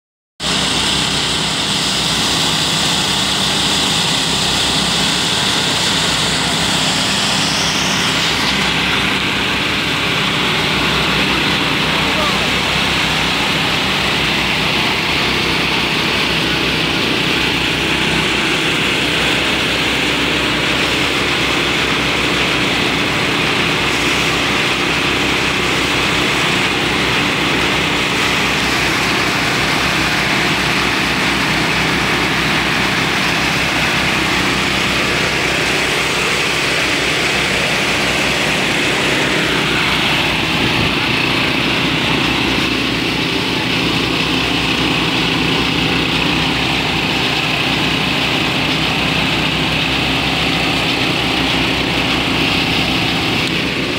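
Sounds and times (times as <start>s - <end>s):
small petrol engine running: 0.4s - 53.9s.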